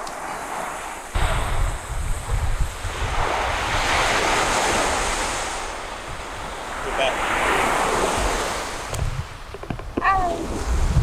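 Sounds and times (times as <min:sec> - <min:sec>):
waves washing onto beach: 0:00.0 - 0:11.0
wind buffeting microphone: 0:00.0 - 0:11.0.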